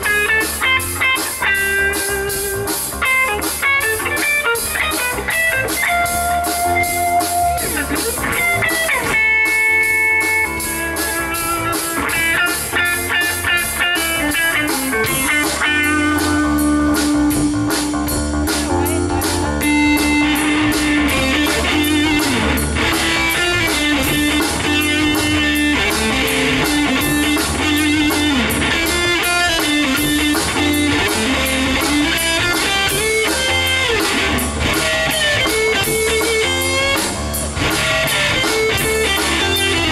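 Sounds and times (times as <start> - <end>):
drums: 0.0 - 39.9
electric guitar lead: 0.0 - 39.9
rhythm guitar: 0.0 - 39.9.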